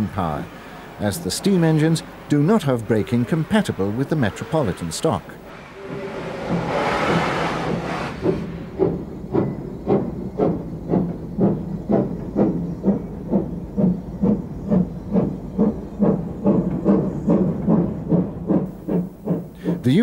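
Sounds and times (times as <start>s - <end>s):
locomotive exhaust beats: 0.0s - 20.0s
steam locomotive hissing steam: 0.0s - 20.0s.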